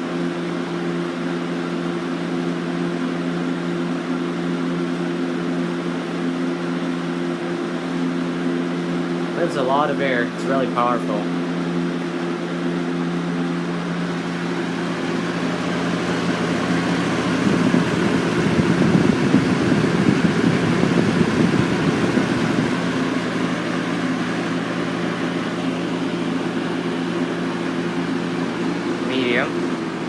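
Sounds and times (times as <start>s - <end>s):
box fan air rushing: 0.0s - 30.0s
low motor hum: 0.0s - 30.0s.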